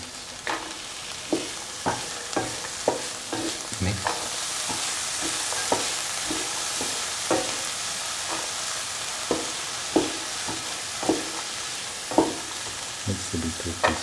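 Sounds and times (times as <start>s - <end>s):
food sizzling in oil: 0.0s - 14.0s
spatula scraping and tapping pan: 0.4s - 12.8s, 13.8s - 14.0s.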